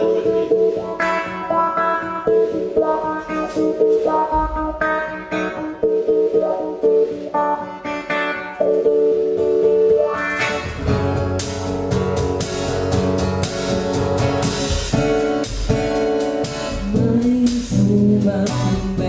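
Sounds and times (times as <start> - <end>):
drum kit: 0.0 - 19.0
live band playing: 0.0 - 19.0
plucked guitar: 0.0 - 19.0.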